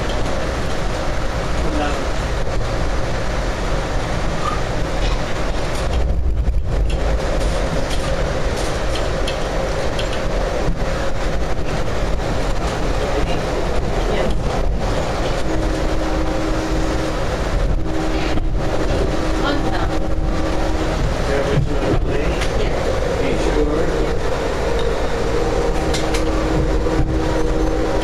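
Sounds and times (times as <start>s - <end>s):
train car rumbling at speed: 0.0s - 28.0s
wheels clicking on rails: 3.6s - 28.0s.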